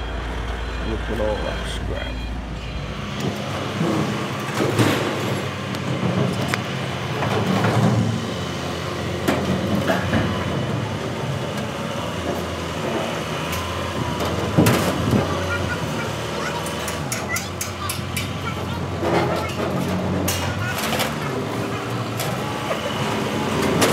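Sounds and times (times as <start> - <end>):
engine running: 0.0 - 23.9.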